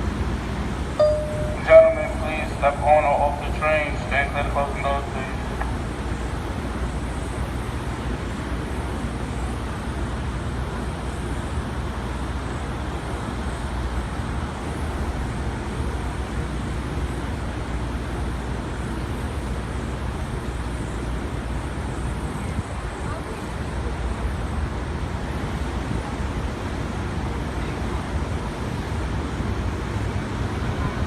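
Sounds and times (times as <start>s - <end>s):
subway wheels rumbling on rail: 0.0s - 31.0s.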